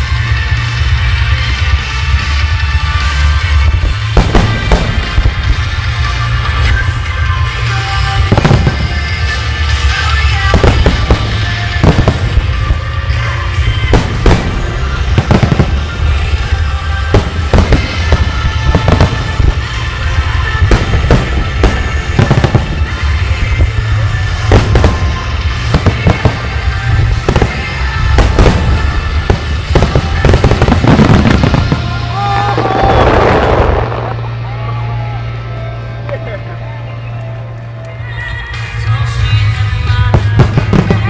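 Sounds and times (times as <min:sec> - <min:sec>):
music playing: 0:00.0 - 0:41.0
fireworks bursting: 0:00.1 - 0:34.6, 0:39.4 - 0:41.0.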